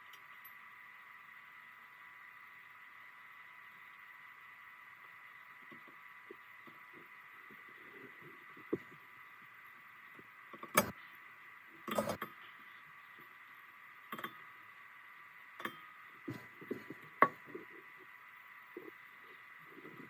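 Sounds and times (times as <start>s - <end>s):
faint steady high tone: 0.0s - 20.0s.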